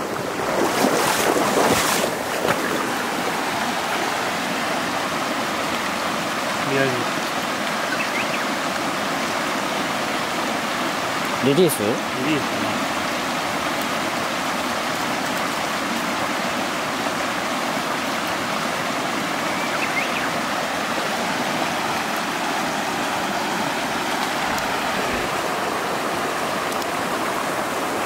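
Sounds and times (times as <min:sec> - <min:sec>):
stream flowing over rocks: 0:00.0 - 0:28.0.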